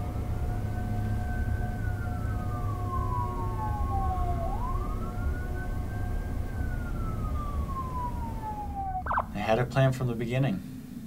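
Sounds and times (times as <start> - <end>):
siren wailing: 0.0 - 9.7.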